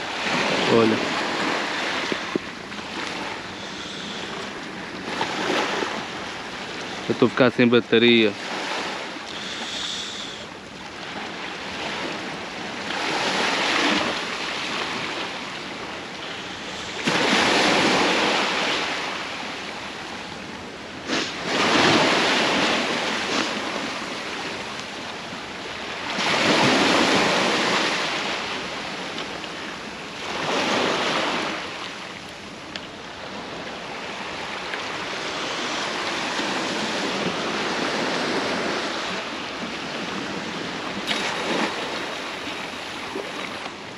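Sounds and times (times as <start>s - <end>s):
sea waves breaking on shore: 0.0s - 43.9s.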